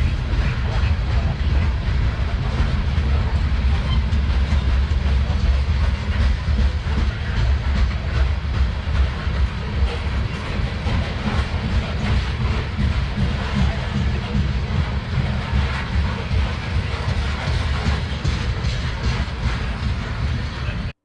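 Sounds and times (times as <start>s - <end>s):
freight train rumbling past: 0.0s - 20.9s.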